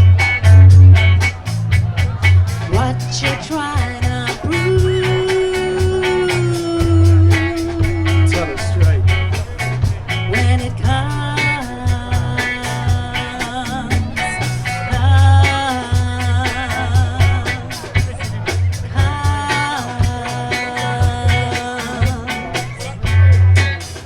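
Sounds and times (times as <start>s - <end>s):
bass line: 0.0s - 24.0s
drum beat with hi-hat: 0.0s - 24.0s.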